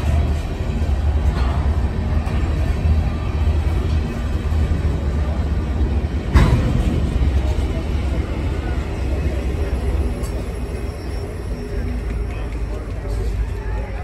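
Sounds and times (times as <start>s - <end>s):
freight cars rumbling on rails: 0.0s - 14.0s.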